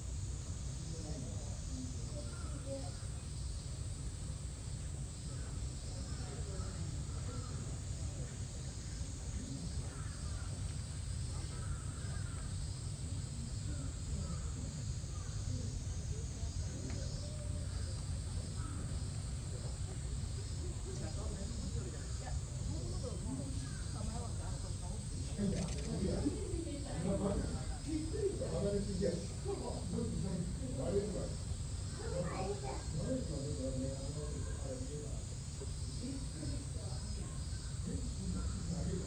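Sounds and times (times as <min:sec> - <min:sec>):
distant voices: 0:00.1 - 0:39.0.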